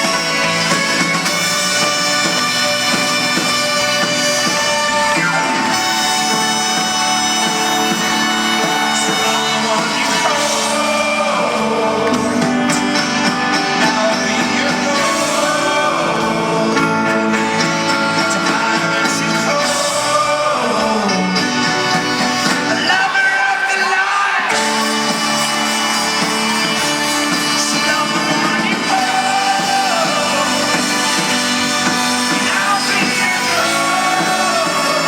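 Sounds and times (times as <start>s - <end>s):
live folk-rock band: 0.0s - 35.0s
person singing: 0.0s - 35.0s.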